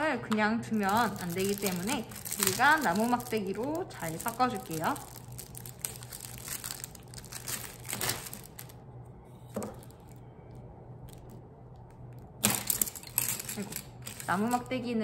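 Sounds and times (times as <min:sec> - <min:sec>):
packaging crinkling and rustling: 0:00.8 - 0:08.8, 0:09.4 - 0:10.3, 0:11.0 - 0:11.4, 0:12.0 - 0:14.7.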